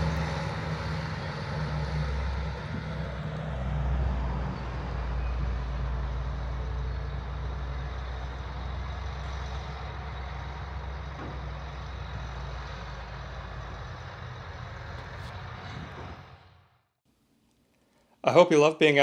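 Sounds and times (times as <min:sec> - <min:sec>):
tractor diesel engine running: 0:00.0 - 0:16.8.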